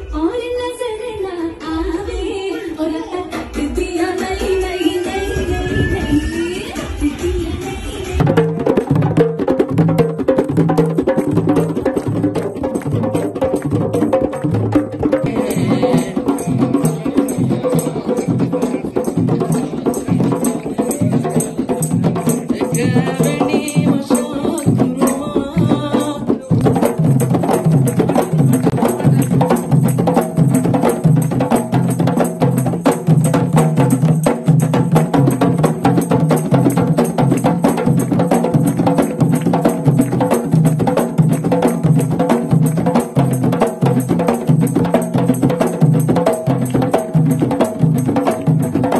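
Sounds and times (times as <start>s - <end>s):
hand drums playing fast rhythm: 3.2s - 48.9s.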